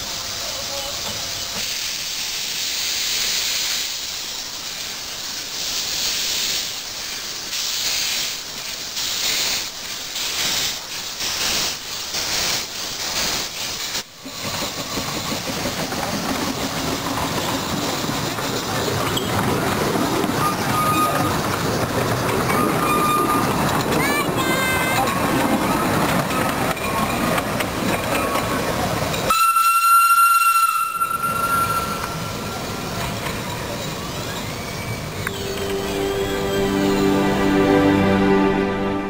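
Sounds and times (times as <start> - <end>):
steam hissing: 0.0 - 37.8
rumble of moving train: 0.0 - 39.0.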